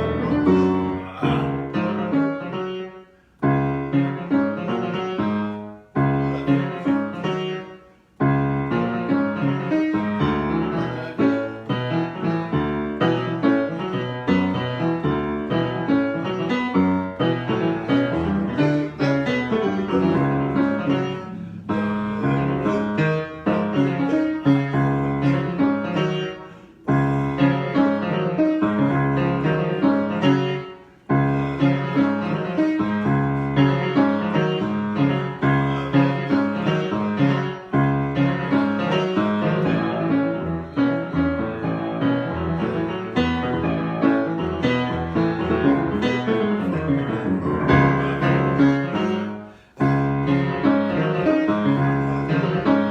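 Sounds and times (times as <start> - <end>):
piano improvisation: 0.0 - 52.9.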